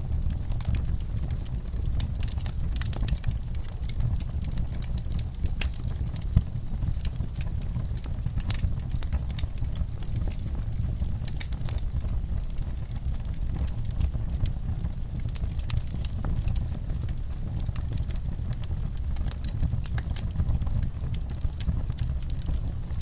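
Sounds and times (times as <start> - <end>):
low fire rumble: 0.0 - 23.0
wood fire crackling: 0.0 - 23.0.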